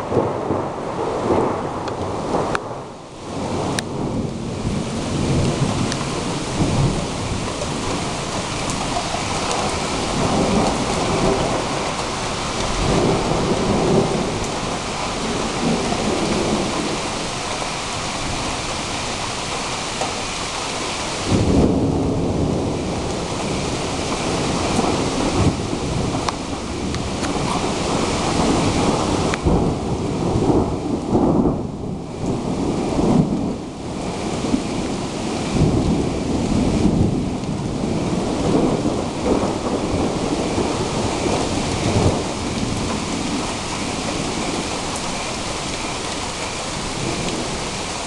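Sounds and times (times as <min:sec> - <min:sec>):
rolling thunder: 0:00.0 - 0:20.1, 0:20.8 - 0:48.0
steady rain: 0:00.0 - 0:48.0.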